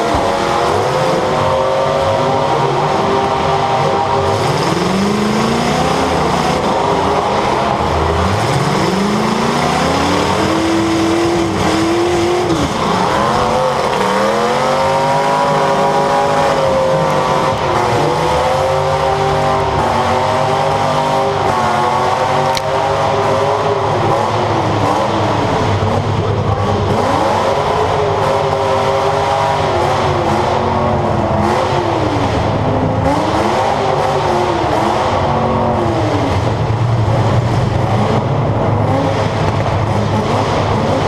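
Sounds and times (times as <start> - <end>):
car engine revving hard: 0.0 - 41.0
other car engines running: 0.0 - 41.0.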